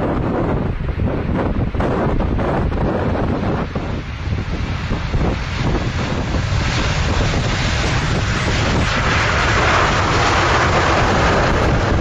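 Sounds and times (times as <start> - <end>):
deep rumble: 0.0 - 12.0
jet engine and wheel noise: 0.0 - 12.0.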